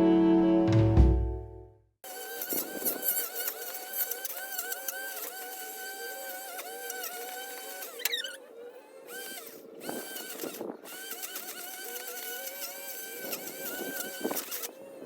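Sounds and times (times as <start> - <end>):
small motor whining: 2.0 - 15.0.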